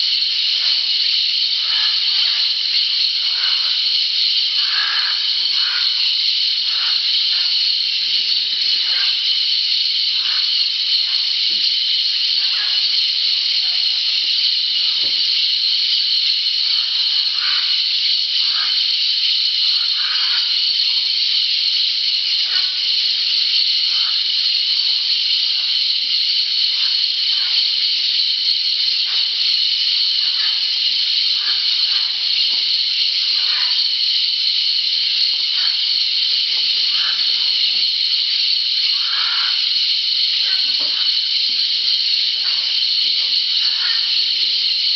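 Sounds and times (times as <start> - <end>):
high-pitched insect drone: 0.0 - 44.9.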